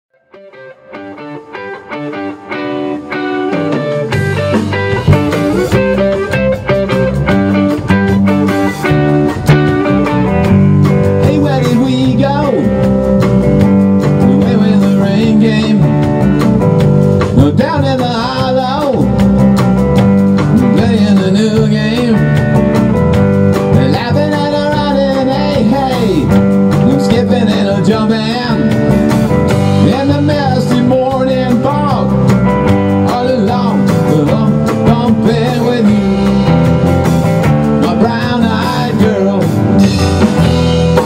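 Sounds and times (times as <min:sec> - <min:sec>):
electric guitar: 0:00.1 - 0:41.0
drum kit: 0:00.4 - 0:41.0.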